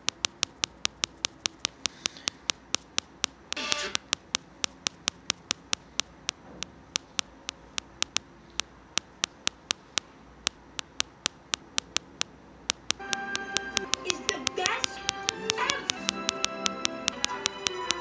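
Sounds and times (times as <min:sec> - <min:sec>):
faint background noise: 0:00.0 - 0:18.0
sharp clicks: 0:00.0 - 0:18.0.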